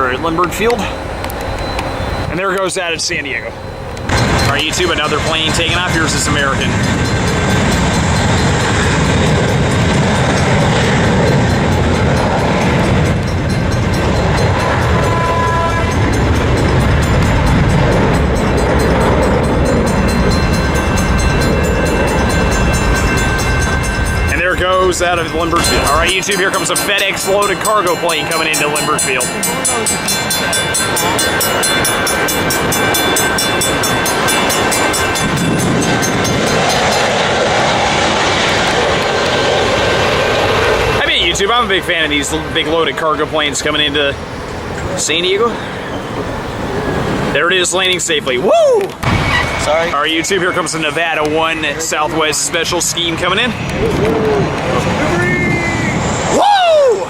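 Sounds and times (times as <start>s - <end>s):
faint engine whine: 0.0s - 57.0s
jet engines roaring: 0.0s - 57.0s.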